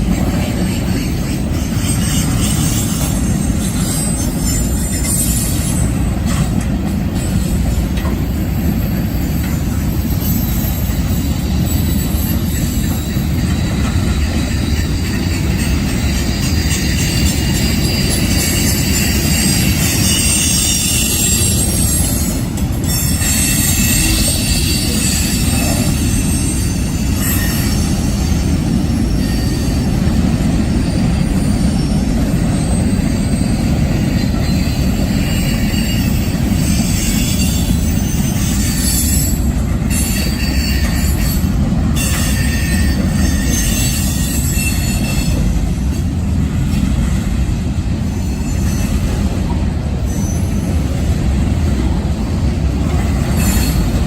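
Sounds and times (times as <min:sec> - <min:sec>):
freight train rumbling on track: 0:00.0 - 0:54.0
train wheels squealing: 0:00.0 - 0:54.0.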